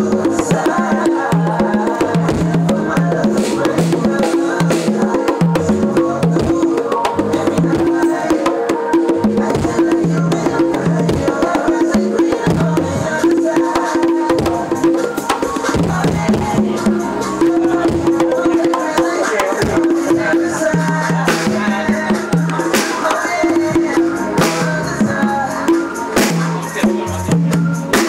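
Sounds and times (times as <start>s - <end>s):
congas played with hands: 0.0s - 28.0s.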